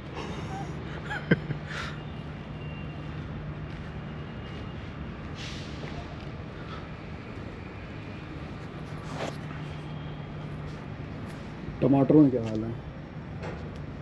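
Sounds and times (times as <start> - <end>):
urban traffic hum: 0.0 - 14.0.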